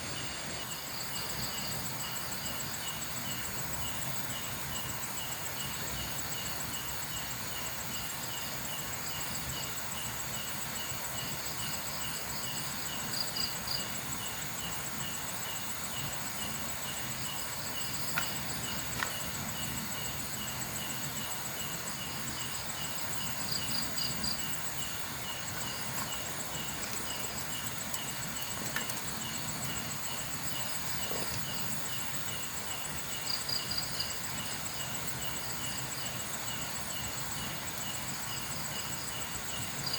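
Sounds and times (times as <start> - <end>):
continuous high insect trill: 0.0 - 39.9
crickets chirping: 0.0 - 39.9.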